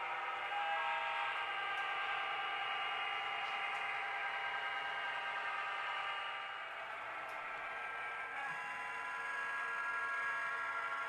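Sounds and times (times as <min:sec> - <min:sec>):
model locomotive engine sound: 0:00.0 - 0:11.0.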